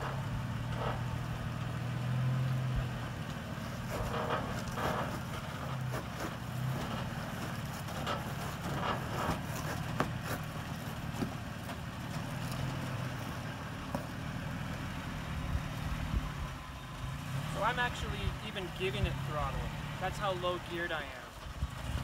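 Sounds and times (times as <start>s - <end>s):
truck engine running at low revs: 0.0s - 22.0s.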